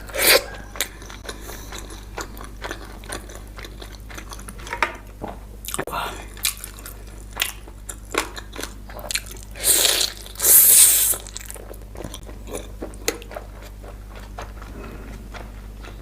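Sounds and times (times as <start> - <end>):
noisy crunching: 0.0 - 16.0
person chewing food: 0.0 - 16.0.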